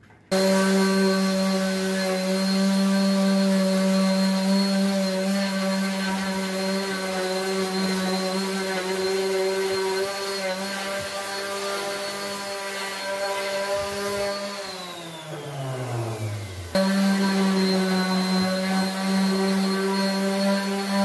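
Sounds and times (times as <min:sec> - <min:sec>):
orbital sander running: 0:00.3 - 0:21.0
sander motor winding down: 0:00.3 - 0:21.0.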